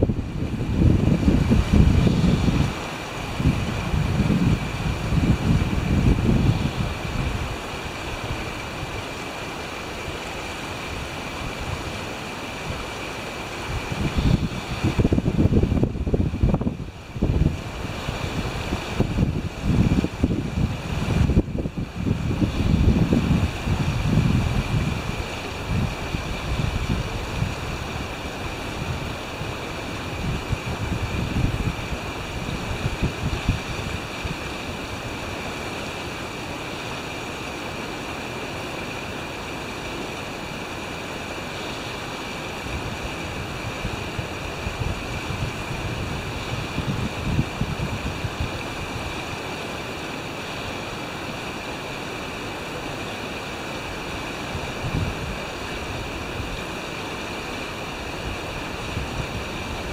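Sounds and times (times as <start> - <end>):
wind buffeting microphone: 0.0 - 37.4, 41.3 - 50.1, 53.8 - 59.9
waves on open water: 0.0 - 59.9.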